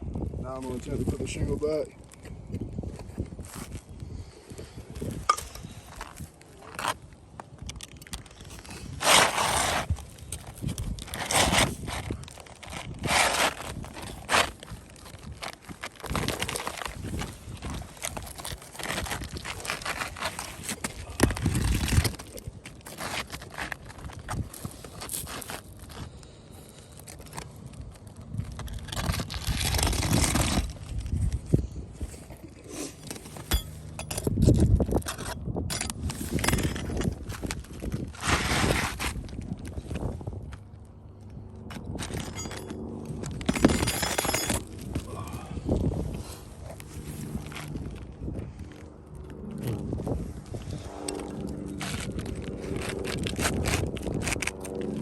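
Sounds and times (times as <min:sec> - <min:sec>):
asphalt shingle scraping and crackling: 0:00.0 - 0:55.0.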